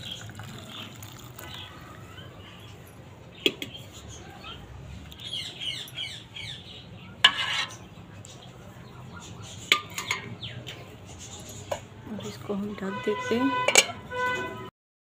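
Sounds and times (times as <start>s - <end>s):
small birds chirping: 0.0s - 13.5s.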